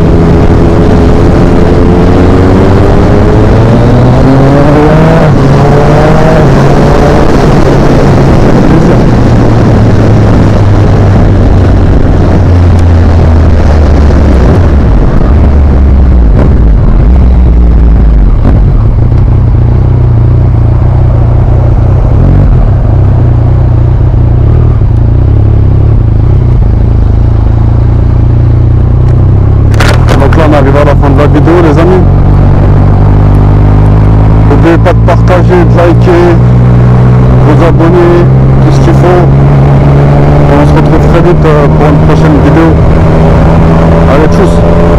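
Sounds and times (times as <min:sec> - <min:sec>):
motorcycle engine running: 0:00.0 - 0:44.9
wind noise: 0:00.0 - 0:44.9.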